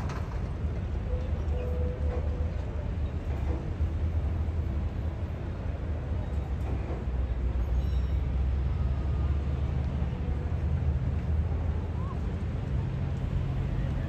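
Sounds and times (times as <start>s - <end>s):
boat engines rumbling: 0.0s - 14.0s.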